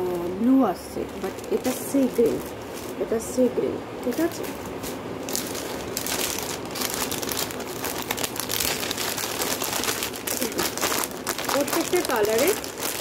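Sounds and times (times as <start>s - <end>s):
plastic packet crinkling: 1.0s - 3.1s, 4.1s - 13.0s.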